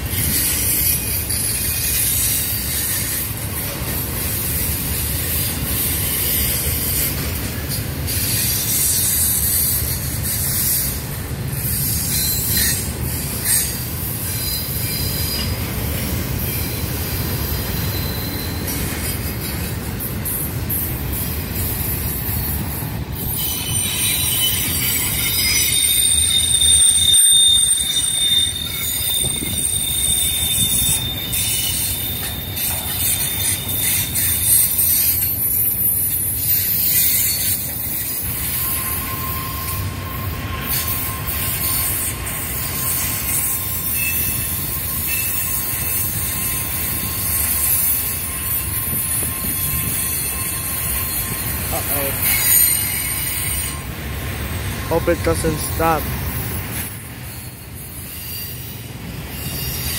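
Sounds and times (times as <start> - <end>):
freight train rumble: 0.0 - 59.9
train wheels squealing: 0.0 - 59.9.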